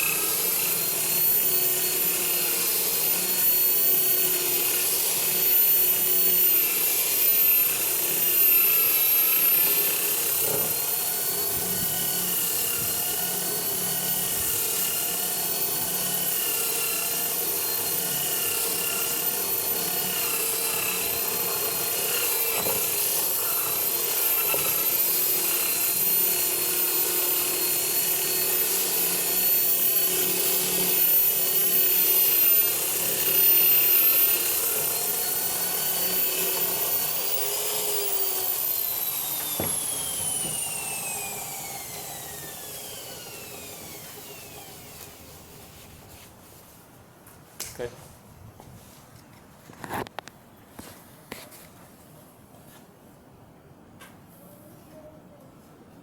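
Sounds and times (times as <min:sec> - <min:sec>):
drill motor whine: 0:00.0 - 0:45.8.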